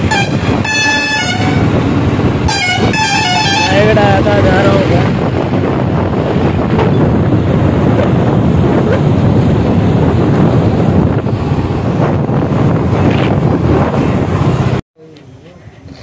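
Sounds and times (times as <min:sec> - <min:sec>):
wind buffeting microphone: 0:00.0 - 0:14.8.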